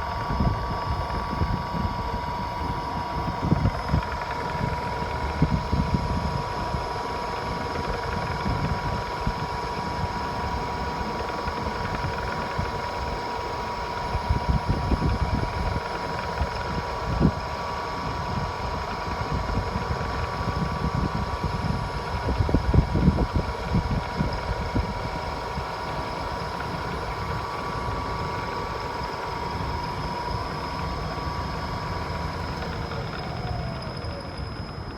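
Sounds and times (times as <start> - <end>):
milling machine whine and rumble: 0.0 - 34.9.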